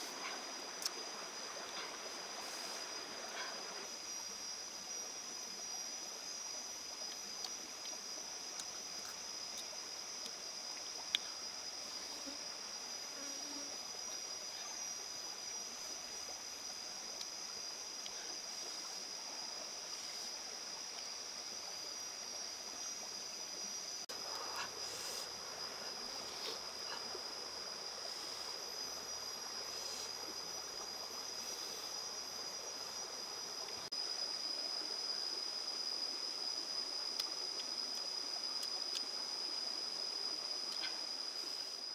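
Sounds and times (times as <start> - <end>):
jungle insects droning: 0.0 - 41.9.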